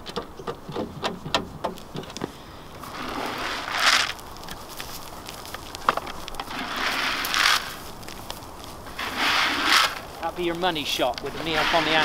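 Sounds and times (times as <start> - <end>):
deer chewing pellets: 1.8 - 12.0.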